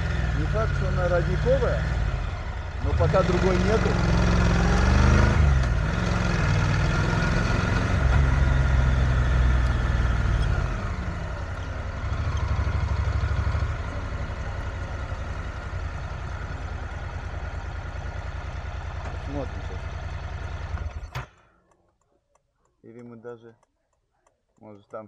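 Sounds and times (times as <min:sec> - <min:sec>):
motorcycle engine running: 0:00.0 - 0:21.4.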